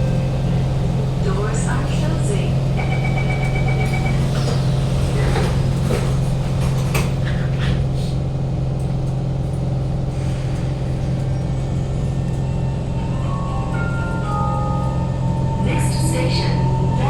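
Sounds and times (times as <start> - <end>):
train ventilation drone: 0.0 - 17.0.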